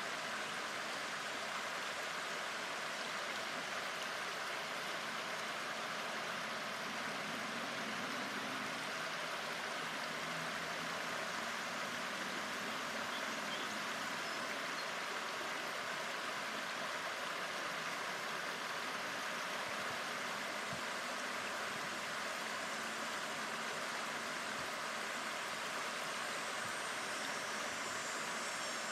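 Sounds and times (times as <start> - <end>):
river rushing over stones: 0.0 - 28.9.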